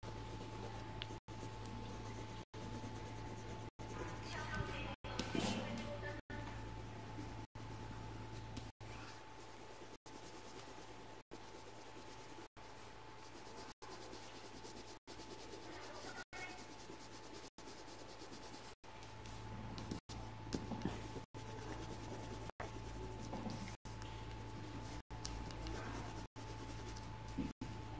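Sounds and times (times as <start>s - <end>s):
drawing tool scratching on paper: 0.0s - 8.8s, 9.4s - 27.8s.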